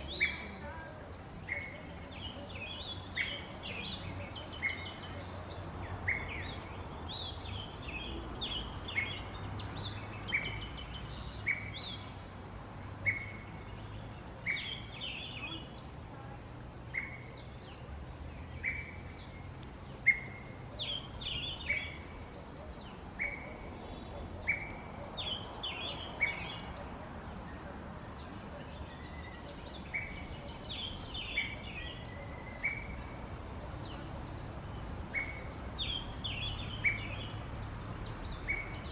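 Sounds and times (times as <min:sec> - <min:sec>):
quick twittering calls: 0:00.0 - 0:38.9
songbirds chirping: 0:00.0 - 0:38.9.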